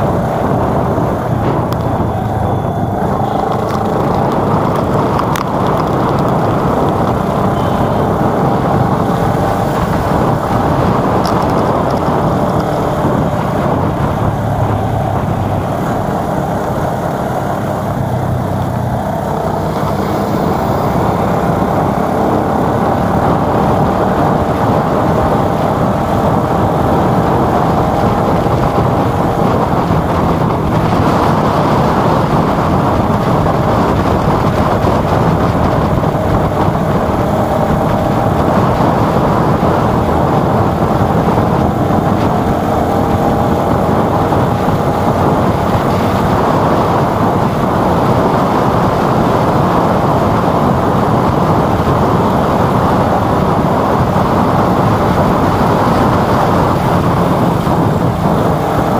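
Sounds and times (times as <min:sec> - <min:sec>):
faint engine hum: 0:00.0 - 0:58.9
road noise: 0:00.0 - 0:58.9
wind rushing over microphone: 0:00.0 - 0:58.9.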